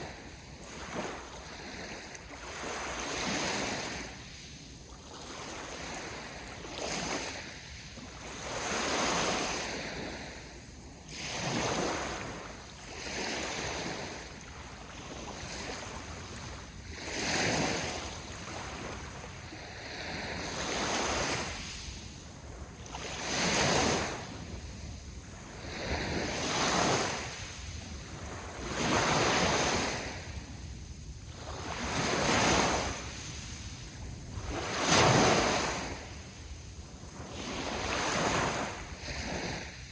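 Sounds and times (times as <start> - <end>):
sea waves breaking on shore: 0.0 - 39.9
wind rumble on microphone: 0.0 - 39.9.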